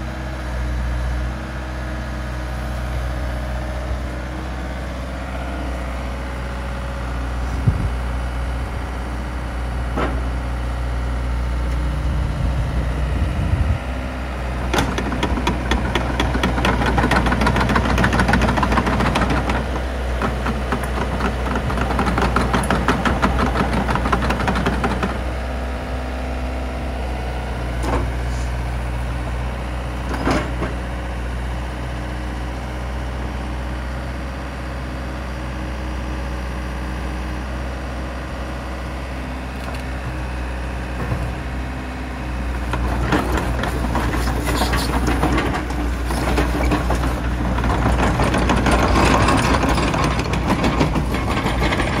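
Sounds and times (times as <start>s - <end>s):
excavator diesel engine idling: 0.0s - 52.0s.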